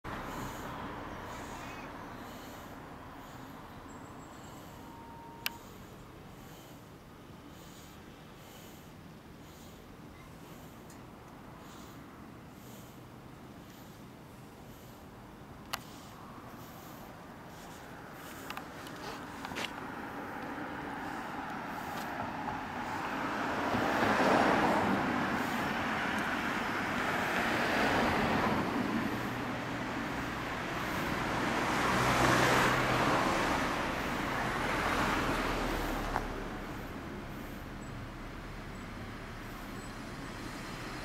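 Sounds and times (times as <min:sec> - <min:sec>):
vehicles passing by: 0:00.0 - 0:41.0.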